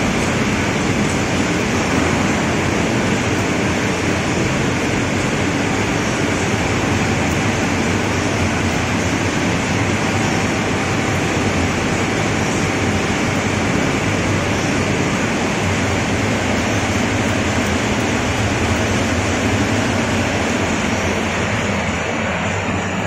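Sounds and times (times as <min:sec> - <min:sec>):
low hum: 0:00.0 - 0:23.0
steady machine noise: 0:00.0 - 0:23.0.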